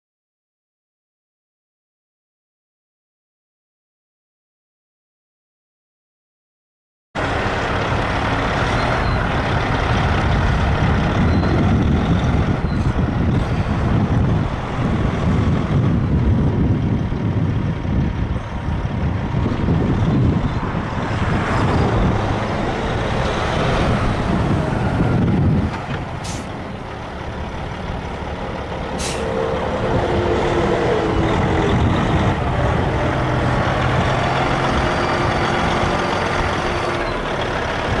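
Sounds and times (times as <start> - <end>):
diesel truck idling: 7.2 - 38.0.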